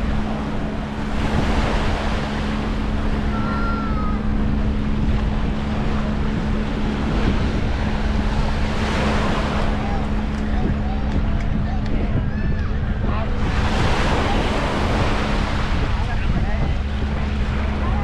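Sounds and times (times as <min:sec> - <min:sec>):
low motor hum: 0:00.0 - 0:18.0
surf on a beach: 0:00.0 - 0:18.0
wind on microphone: 0:00.0 - 0:18.0.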